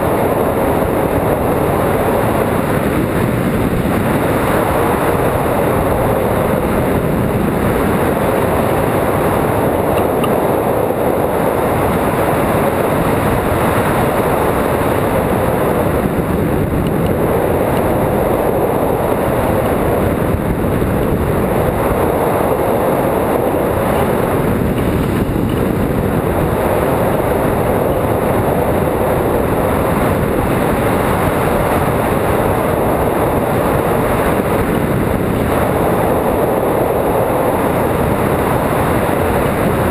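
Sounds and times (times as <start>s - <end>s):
airflow rushing over microphone: 0.0s - 39.9s.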